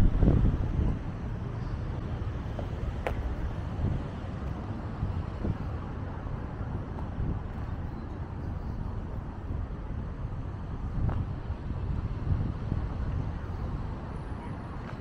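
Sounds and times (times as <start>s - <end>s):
faint street noise: 0.0s - 15.0s
wind rumbling on microphone: 0.0s - 15.0s.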